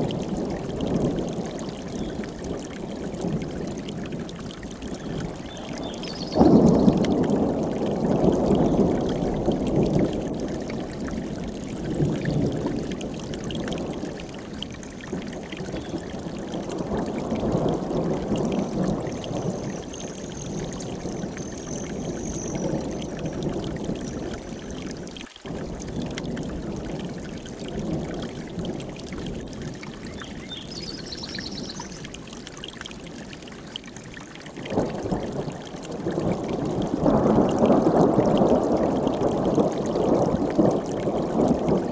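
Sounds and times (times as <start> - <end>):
stream rushing over rocks: 0.0 - 41.9.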